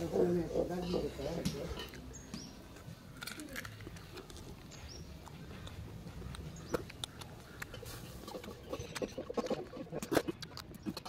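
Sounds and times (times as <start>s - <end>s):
person chewing crisp fruit: 1.8s - 11.0s.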